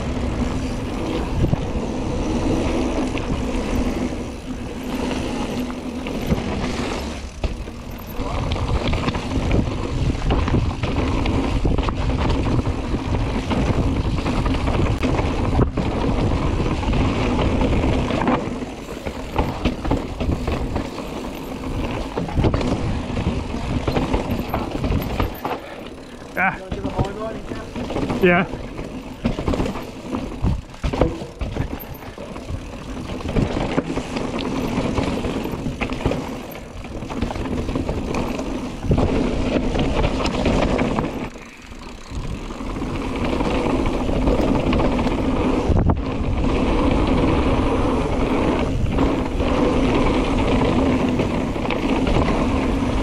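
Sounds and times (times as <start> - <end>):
bike knocks and rattles: 0.0 - 53.0
tyres rumbling on dirt and rocks: 0.0 - 53.0
wind buffeting microphone: 0.0 - 53.0.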